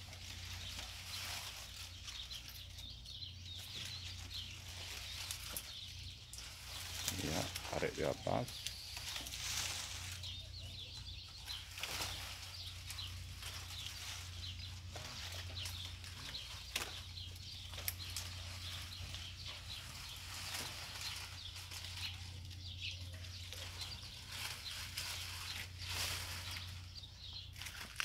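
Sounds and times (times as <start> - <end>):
palm fronds rustling and crackling: 0.0 - 28.0.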